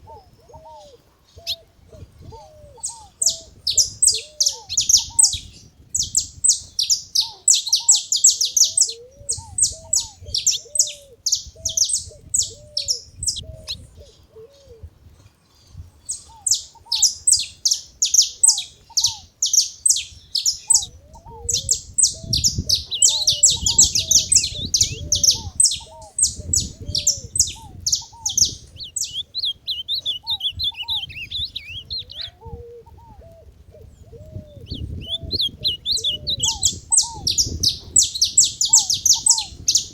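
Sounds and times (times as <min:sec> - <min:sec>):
finches chirping and twittering: 0:02.2 - 0:13.9, 0:15.7 - 0:32.3, 0:34.6 - 0:39.9
lower hooked bird call: 0:02.3 - 0:14.8, 0:16.1 - 0:33.4, 0:34.2 - 0:39.9.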